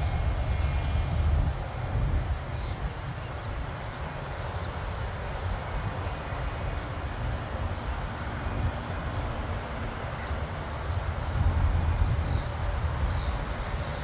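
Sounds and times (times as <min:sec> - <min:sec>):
distant aircraft engine rumble: 0:00.0 - 0:14.0.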